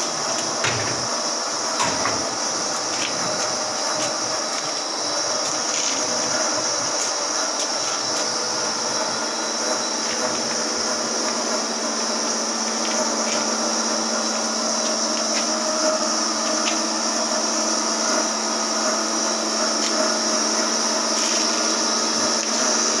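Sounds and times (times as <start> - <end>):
lathe humming with high whine: 0.0 - 23.0.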